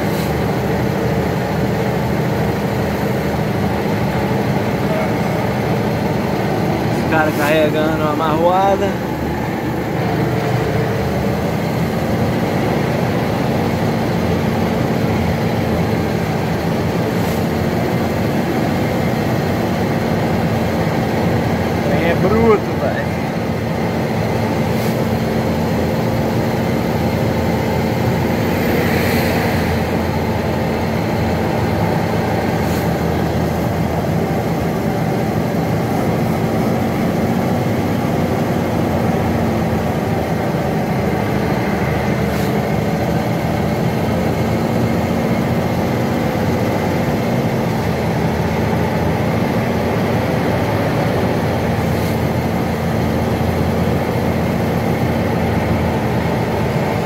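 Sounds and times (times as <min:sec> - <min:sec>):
road rumble: 0:00.0 - 0:57.0
truck diesel engine droning: 0:00.0 - 0:57.0.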